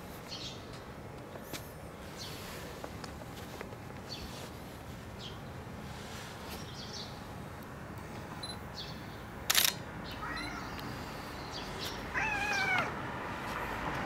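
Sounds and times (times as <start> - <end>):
street ambience: 0.0 - 14.0.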